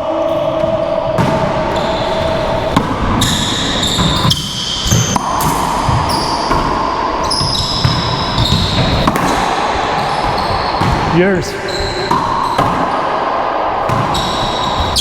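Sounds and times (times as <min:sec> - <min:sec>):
ball hitting racquets and walls: 0:00.2 - 0:15.0
sneakers squeaking on court floor: 0:00.3 - 0:15.0.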